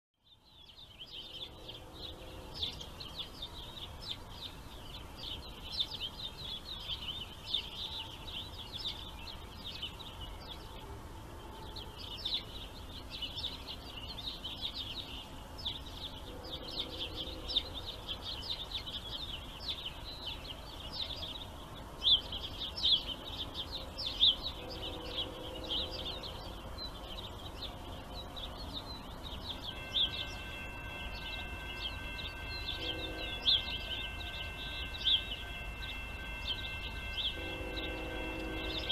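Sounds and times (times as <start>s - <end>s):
low outdoor background hum: 0.2s - 38.9s
small birds chirping: 0.2s - 38.9s.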